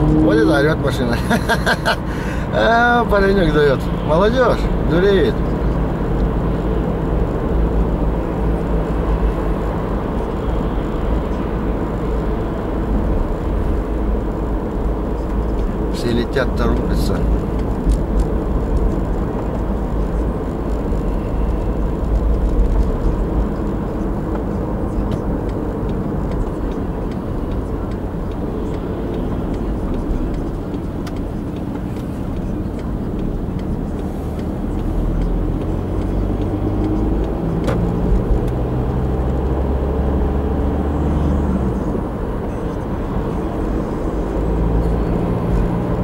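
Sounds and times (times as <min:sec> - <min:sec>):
car engine droning: 0:00.0 - 0:46.0
road noise: 0:00.0 - 0:46.0.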